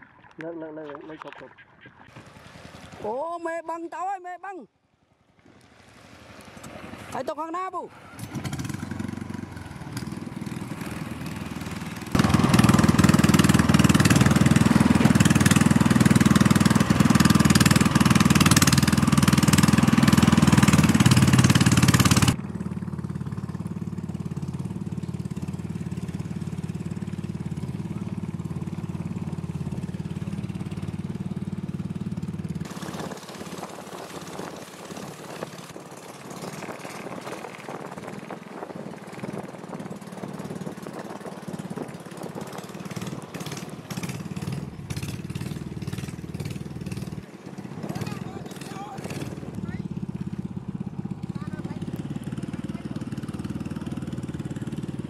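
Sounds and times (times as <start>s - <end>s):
boat engine running: 0.0s - 4.1s, 5.2s - 55.0s.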